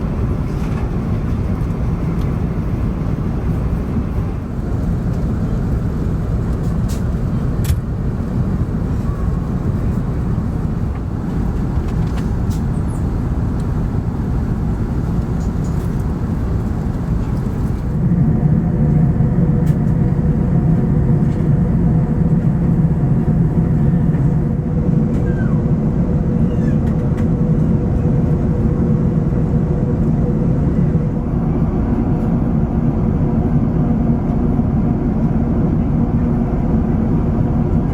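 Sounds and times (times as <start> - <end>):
airliner engines rumbling: 0.0 - 37.9.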